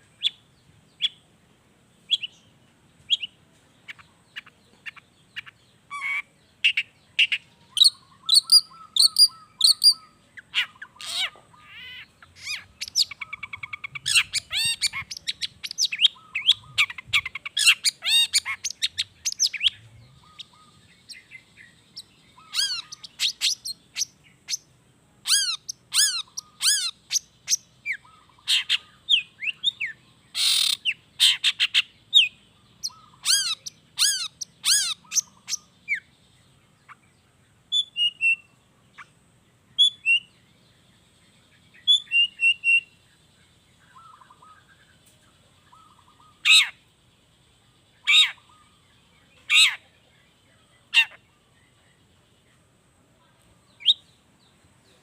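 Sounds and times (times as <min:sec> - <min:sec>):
bird song with chirps and trills: 0:00.0 - 0:55.0.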